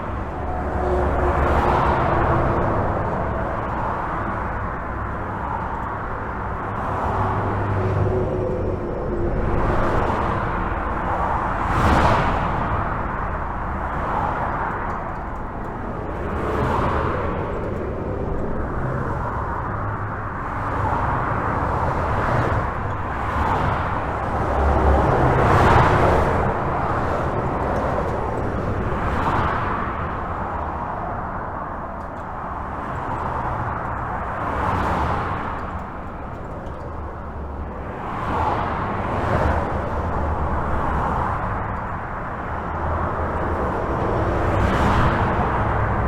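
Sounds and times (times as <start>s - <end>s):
highway traffic rushing: 0.0s - 46.0s
vehicles passing: 0.0s - 46.0s.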